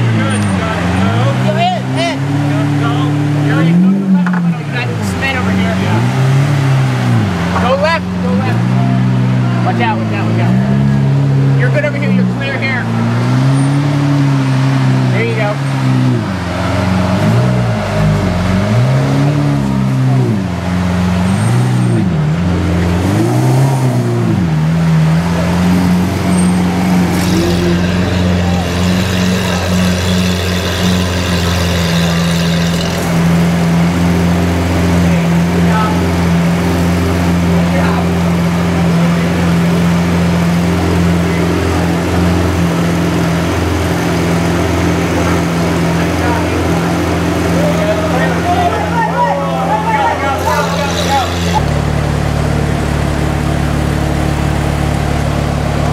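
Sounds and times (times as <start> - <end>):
car engine revving and idling: 0.0 - 55.9.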